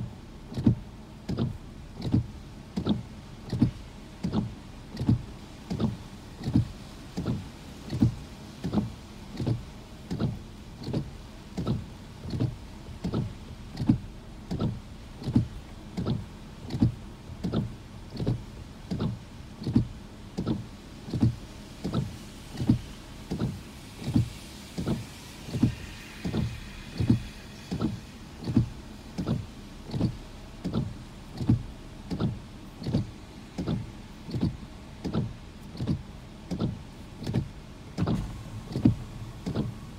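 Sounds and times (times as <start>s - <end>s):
windshield wipers thumping: 0.0s - 39.9s.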